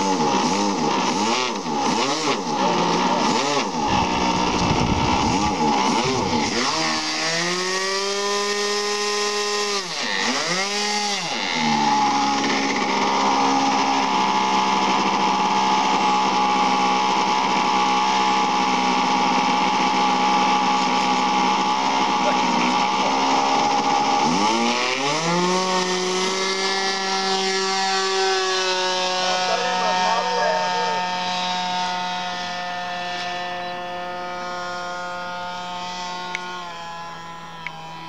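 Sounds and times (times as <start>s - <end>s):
model airplane engine revving: 0.0s - 38.0s.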